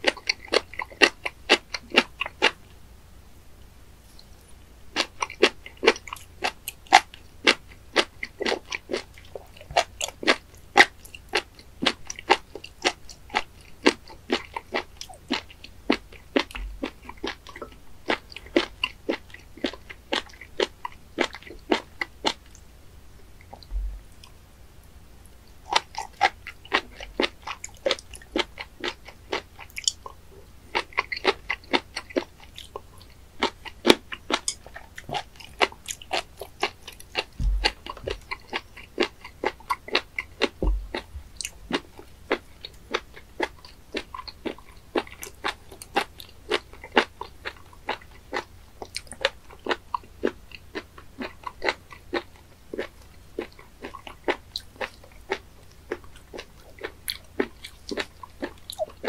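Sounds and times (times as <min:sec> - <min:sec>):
wet chewing clicks: 0:00.0 - 0:02.6, 0:04.9 - 0:22.6, 0:25.2 - 0:59.0.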